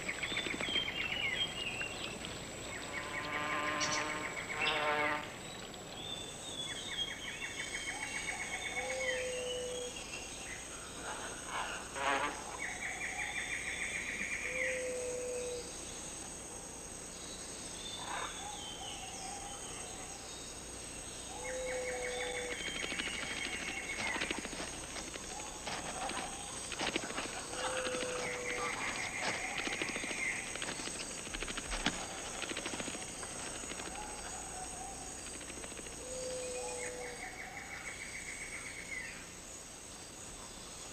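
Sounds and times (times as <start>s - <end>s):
high insect hum: 0.0s - 40.9s.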